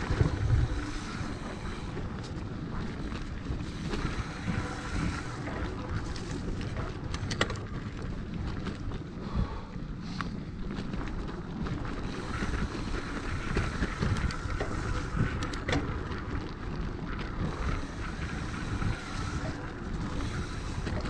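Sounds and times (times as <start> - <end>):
bike rattling over bumps: 0.0 - 21.0
bike tyres rumbling on dirt trail: 0.0 - 21.0
wind buffeting microphone: 0.0 - 21.0.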